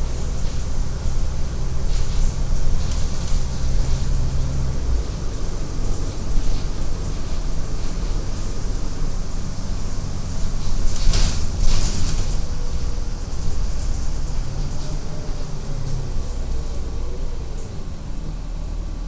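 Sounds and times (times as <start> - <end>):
bus engine drone: 0.0 - 19.0
tyre and road noise: 0.0 - 19.0.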